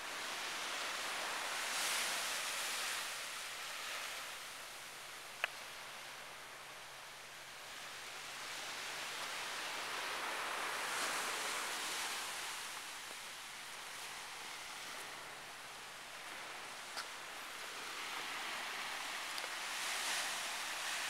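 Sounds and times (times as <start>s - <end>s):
small ocean waves washing ashore: 0.0s - 21.0s.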